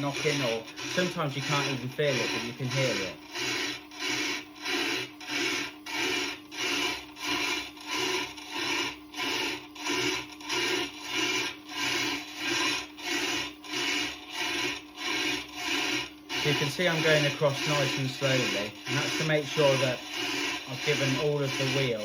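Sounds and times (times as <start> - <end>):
diamond cutter scraping grinding stone: 0.0 - 22.0
grinder motor hum: 0.0 - 22.0.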